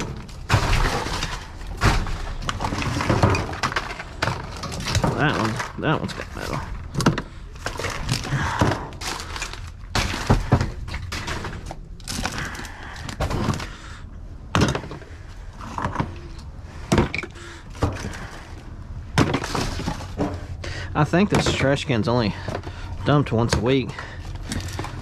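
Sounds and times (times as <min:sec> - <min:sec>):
trash rummaged in a dumpster: 0:00.0 - 0:25.0.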